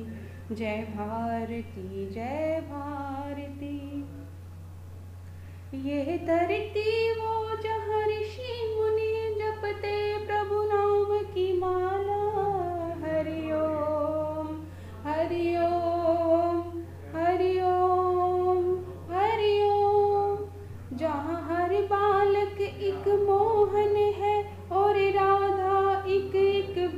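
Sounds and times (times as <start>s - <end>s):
woman singing: 0.0s - 4.1s, 5.8s - 26.9s
steady low hum: 0.0s - 26.9s.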